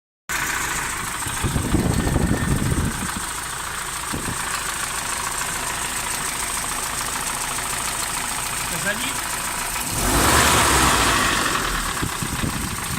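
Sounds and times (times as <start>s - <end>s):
engine idling with knock: 0.3s - 12.9s
heavy low rumble: 0.5s - 12.9s.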